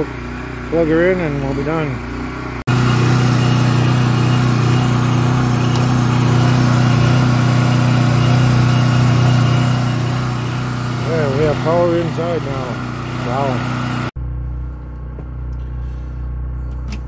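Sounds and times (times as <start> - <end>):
generator running: 0.0 - 17.0.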